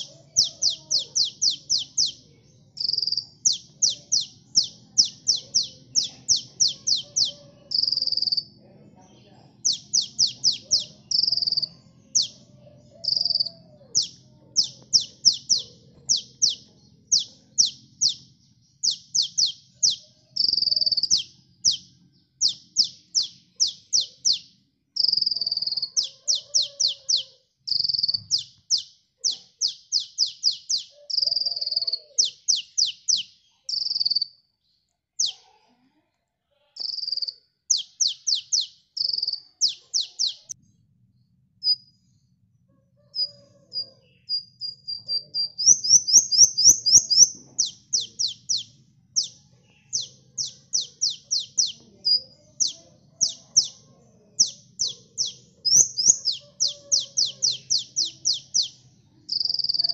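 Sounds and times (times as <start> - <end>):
sunbird chirps and trills: 0.0 - 35.6, 36.6 - 42.3, 43.0 - 59.9.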